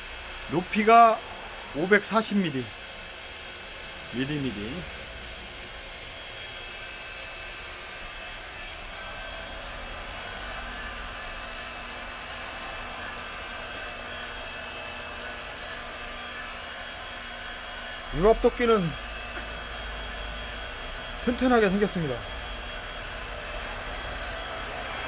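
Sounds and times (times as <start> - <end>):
log splitter motor humming: 0.0 - 25.0.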